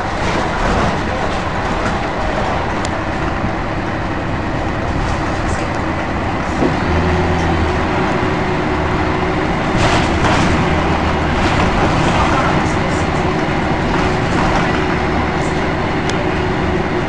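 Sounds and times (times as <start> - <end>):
diesel bus engine running: 0.0 - 17.0.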